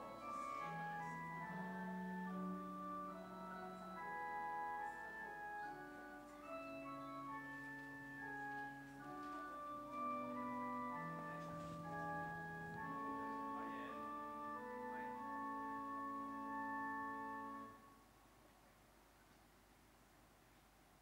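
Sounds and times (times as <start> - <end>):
slow organ chords: 0.0 - 18.0.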